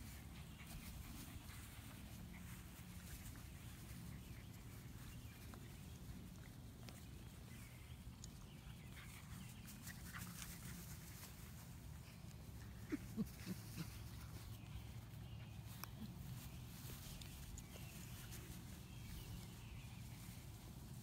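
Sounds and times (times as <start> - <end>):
scuffling and rustles on grass: 0.0 - 21.0.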